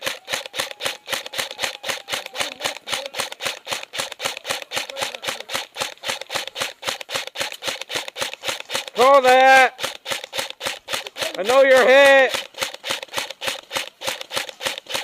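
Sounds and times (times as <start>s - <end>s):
airsoft gun firing full auto: 0.0s - 15.0s.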